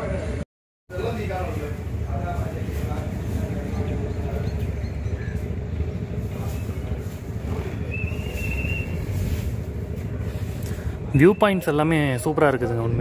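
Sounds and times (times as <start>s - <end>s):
boat engine rumbling: 0.1s - 13.0s.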